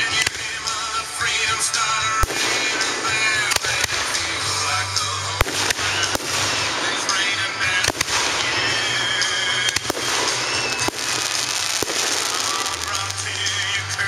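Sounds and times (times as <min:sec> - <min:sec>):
music playing: 0:00.0 - 0:14.0
firework shells bursting: 0:02.2 - 0:13.8.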